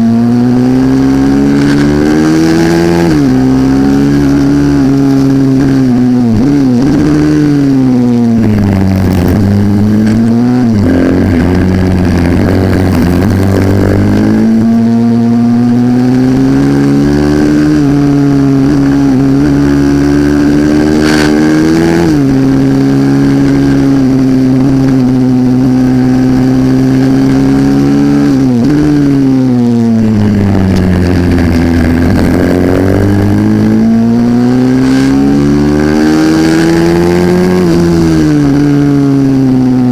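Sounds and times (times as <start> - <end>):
small motorbike engine running hard: 0.0 - 39.9.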